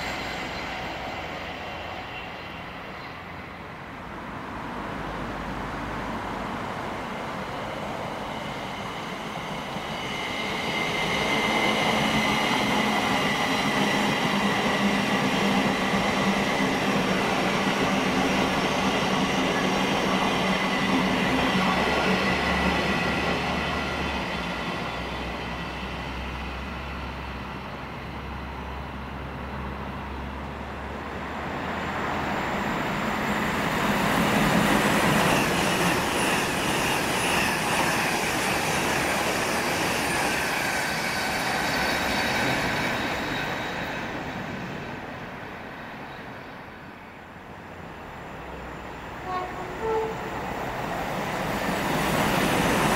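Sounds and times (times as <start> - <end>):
electric train passing: 0.0 - 52.9
train passing with high whine: 0.0 - 52.9.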